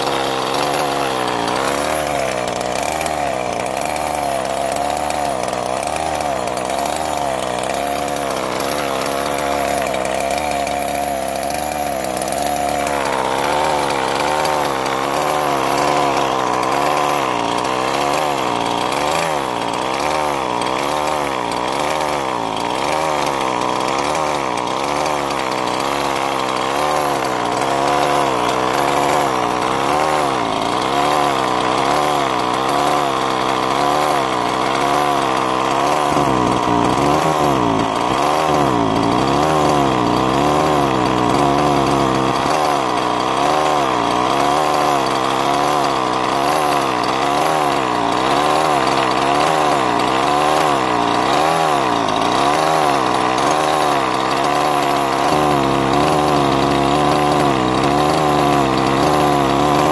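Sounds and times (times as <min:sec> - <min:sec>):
small two-stroke engine idling: 0:00.0 - 0:59.9.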